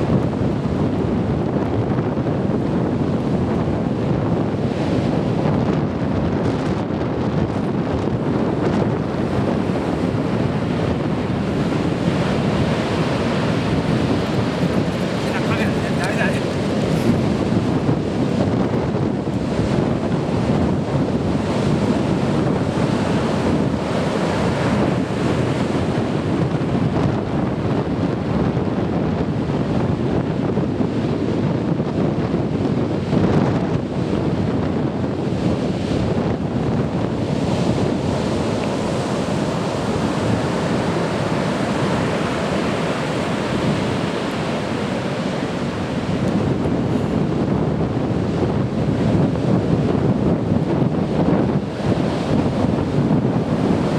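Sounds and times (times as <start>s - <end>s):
heavy surf breaking: 0.0s - 28.3s, 33.8s - 53.9s
wind buffeting microphone: 0.0s - 53.9s.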